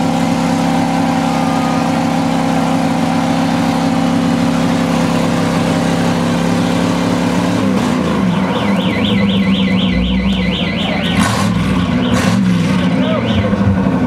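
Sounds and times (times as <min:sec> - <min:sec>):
car engine under load: 0:00.0 - 0:14.0
high warbling tone: 0:00.6 - 0:13.6.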